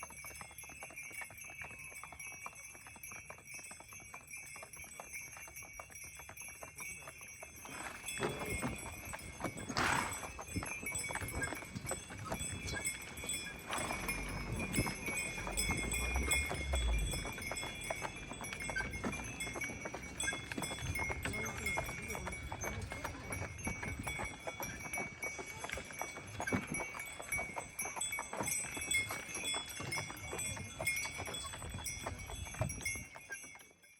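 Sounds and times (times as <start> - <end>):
harness bells ringing: 0.0 - 33.9
hooves clip-clopping: 0.0 - 33.9.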